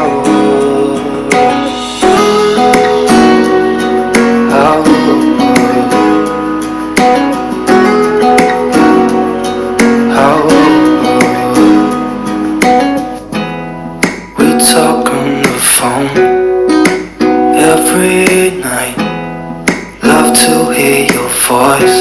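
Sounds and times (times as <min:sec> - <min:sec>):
person singing: 0:00.0 - 0:13.1, 0:14.4 - 0:19.2, 0:19.8 - 0:22.0
acoustic pop song through speaker: 0:00.0 - 0:22.0
strummed acoustic guitar chords: 0:00.0 - 0:22.0.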